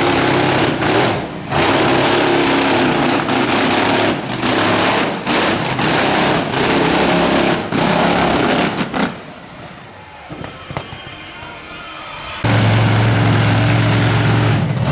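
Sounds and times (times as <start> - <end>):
monster truck engine revving: 0.0 - 9.4, 12.2 - 14.9.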